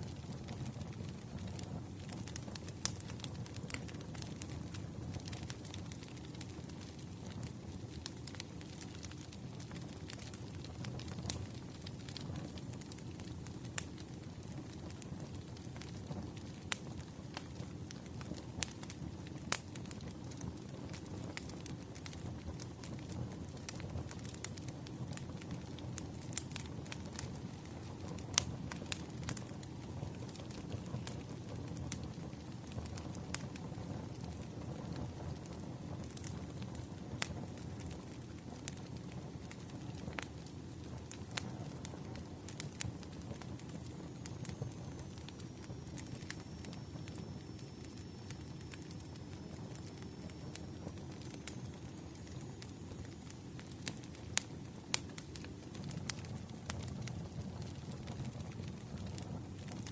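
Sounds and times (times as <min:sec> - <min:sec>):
logs crackling and popping: 0:00.0 - 0:59.9
low rumble of flames: 0:00.0 - 0:59.9.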